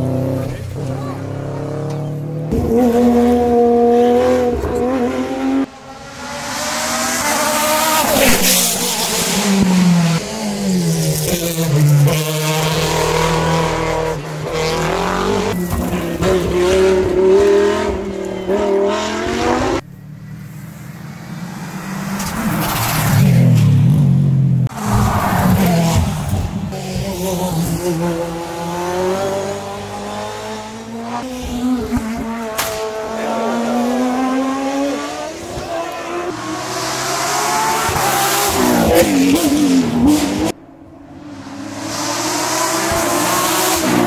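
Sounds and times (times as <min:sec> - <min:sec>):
race car engines revving: 0:00.0 - 0:44.0.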